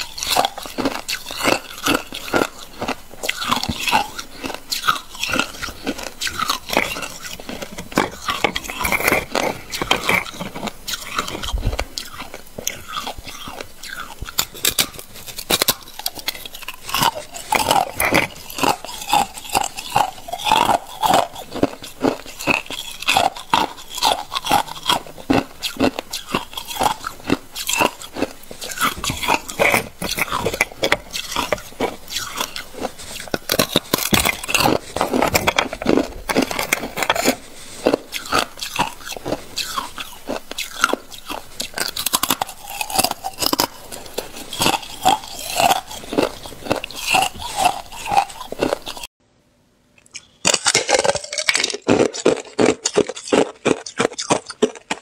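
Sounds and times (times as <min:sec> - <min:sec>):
ice being chewed: 0:00.0 - 0:49.2, 0:50.0 - 0:55.0.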